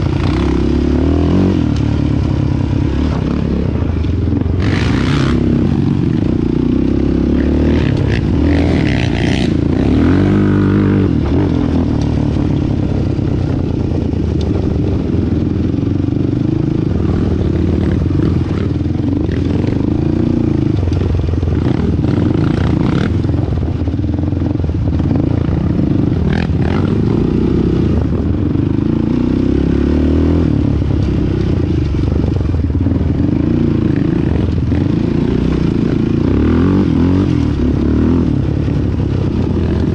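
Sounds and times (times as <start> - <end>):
quad engine revving: 0.0 - 23.5, 25.1 - 32.0, 32.9 - 39.9
quad rattling over rough ground: 0.0 - 39.9.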